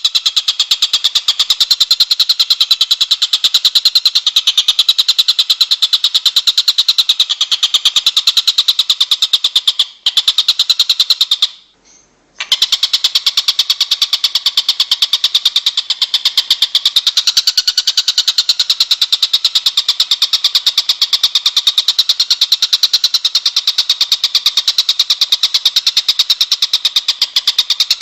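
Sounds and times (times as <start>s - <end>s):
songbird trilling: 0.0s - 28.0s.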